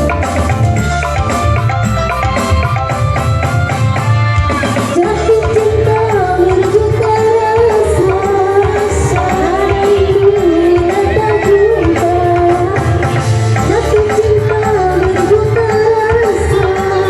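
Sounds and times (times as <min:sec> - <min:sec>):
sliding wavering lead melody: 0:00.0 - 0:17.0
steady drum beat: 0:00.0 - 0:17.0.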